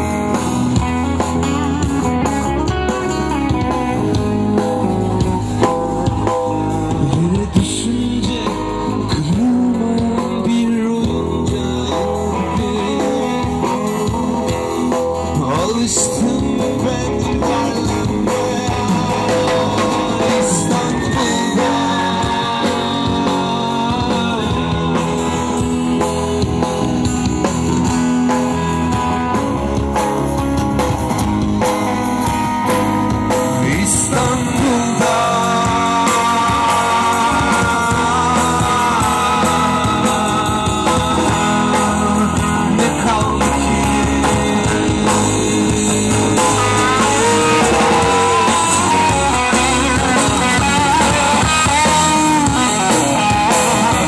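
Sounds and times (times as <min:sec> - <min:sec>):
live rock band: 0:00.0 - 0:54.0
man singing: 0:02.1 - 0:26.7, 0:33.3 - 0:54.0.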